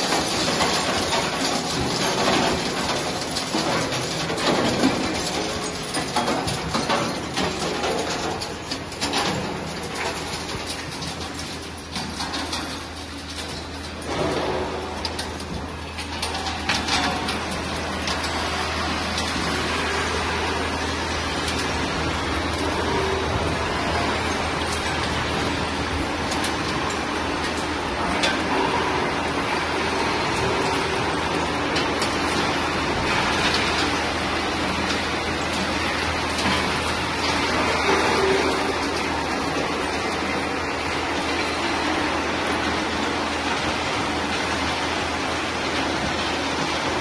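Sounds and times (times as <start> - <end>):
mechanical noise: 0.0 - 47.0.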